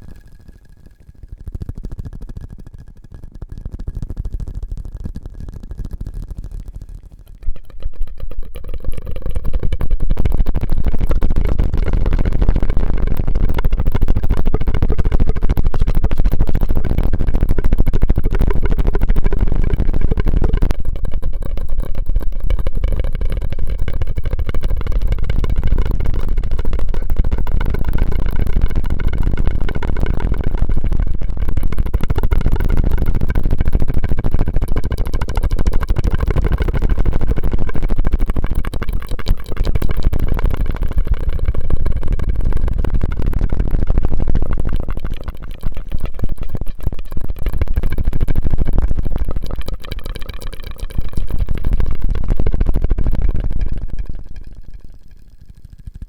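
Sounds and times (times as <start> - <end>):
air rushing through a straw: 0.0 - 56.0.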